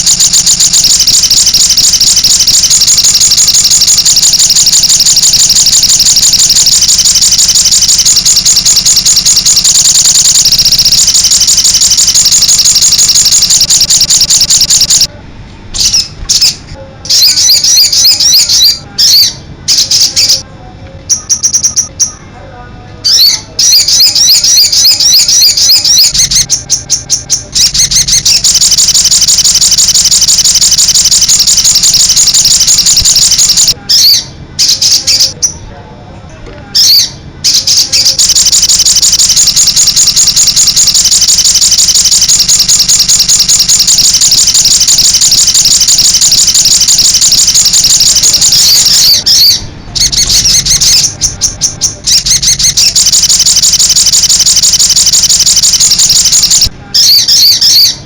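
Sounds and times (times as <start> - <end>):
bird singing high-pitched bursts: 0.0 - 15.1, 15.8 - 20.4, 21.1 - 22.2, 23.0 - 35.6, 36.8 - 58.0.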